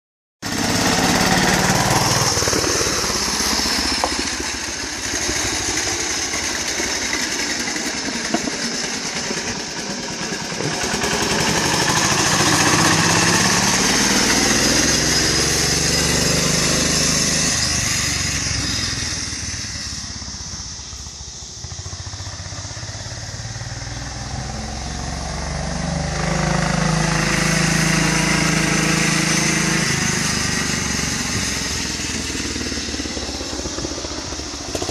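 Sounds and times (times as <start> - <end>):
garden tractor engine running hard: 0.4 - 34.9.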